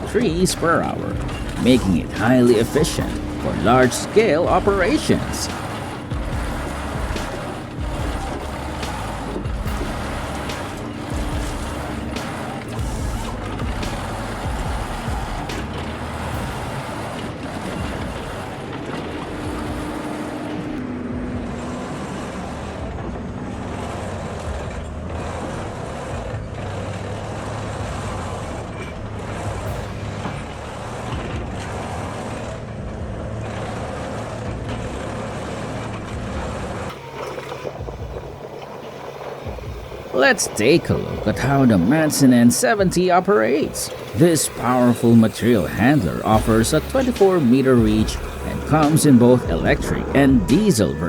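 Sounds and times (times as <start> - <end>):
diesel engine running: 0.0 - 51.0
machine work knocks: 0.0 - 51.0.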